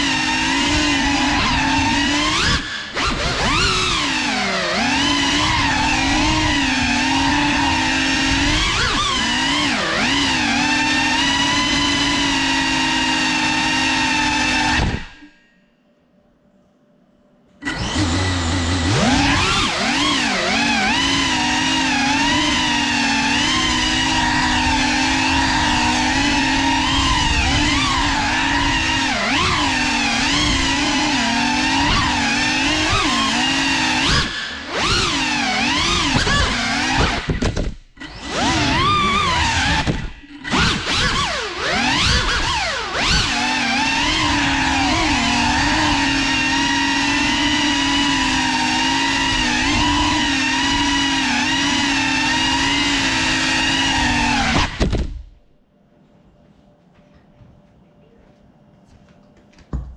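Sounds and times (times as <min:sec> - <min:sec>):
drone motors whining: 0:00.0 - 0:15.5, 0:17.6 - 0:55.4.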